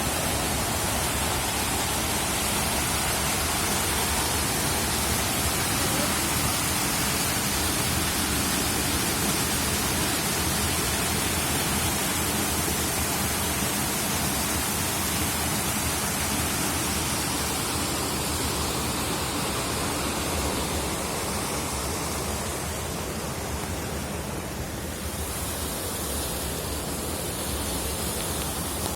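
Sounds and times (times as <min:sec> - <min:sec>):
rushing water: 0:00.0 - 0:28.9.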